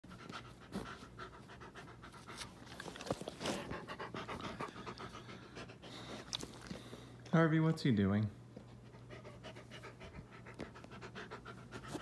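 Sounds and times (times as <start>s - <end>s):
dog panting: 0.0s - 7.1s, 8.6s - 12.0s.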